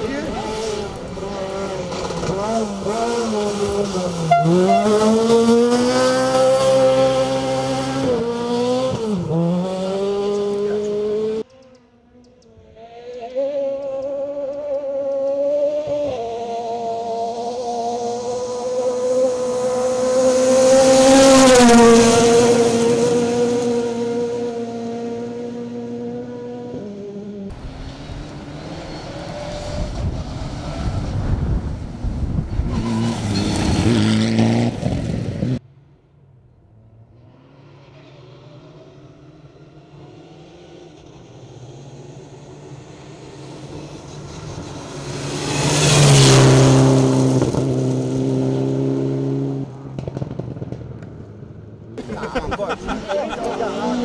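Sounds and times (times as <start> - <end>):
rally car engines on gravel: 0.0 - 25.7, 27.5 - 35.6, 39.6 - 54.0.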